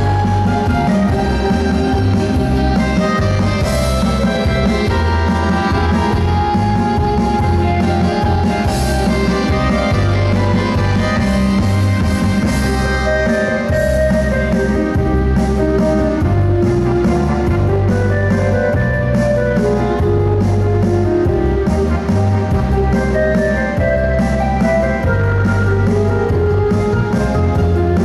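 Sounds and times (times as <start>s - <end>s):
instrumental folk dance music: 0.0s - 28.0s.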